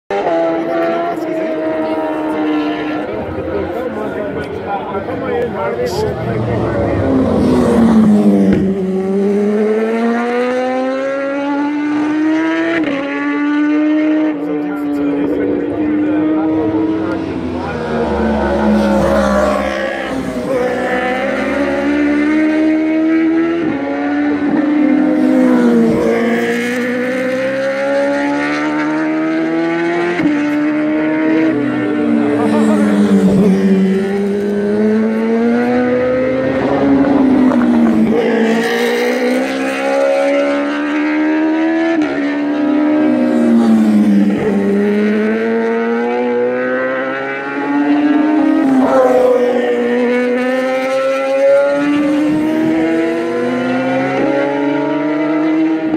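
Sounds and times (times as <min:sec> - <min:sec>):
motorcycle engines revving: 0:00.1 - 0:55.9.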